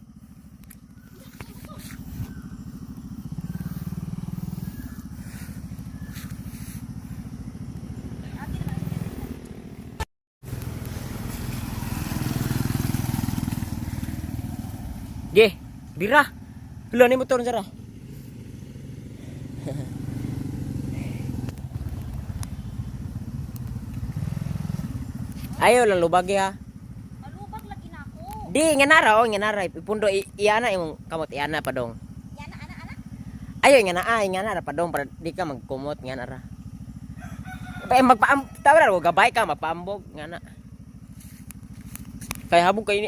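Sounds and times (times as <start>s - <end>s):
small motorcycle engine running: 0.0s - 43.0s.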